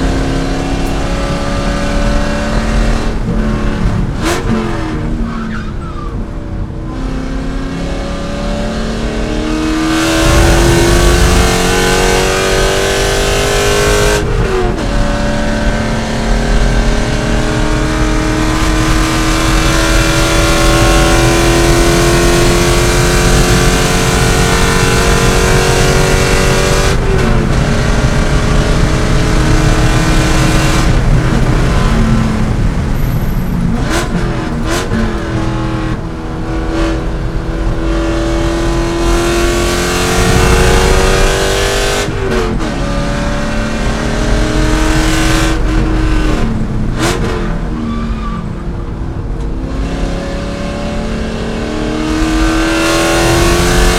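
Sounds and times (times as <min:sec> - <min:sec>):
car engine at full throttle: 0:00.0 - 0:53.9.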